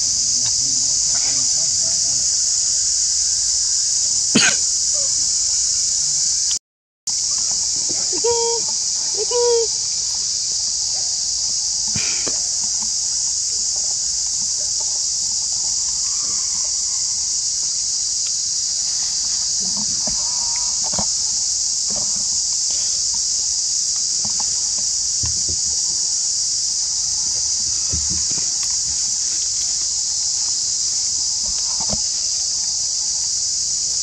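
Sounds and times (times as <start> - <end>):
insect chorus drone: 0.0 - 34.0.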